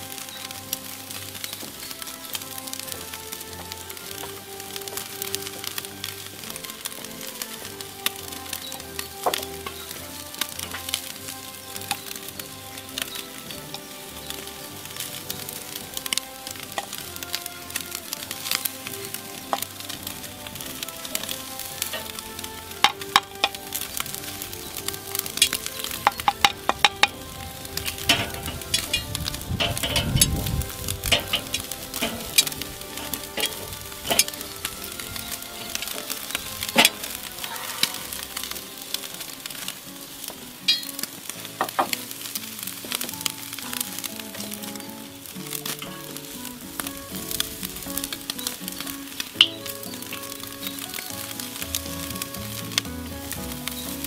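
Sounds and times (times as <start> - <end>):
sharp pops and crackles: 0.0 - 54.0
soft background music: 0.0 - 54.0
steaks sizzling on a grill: 0.0 - 54.0.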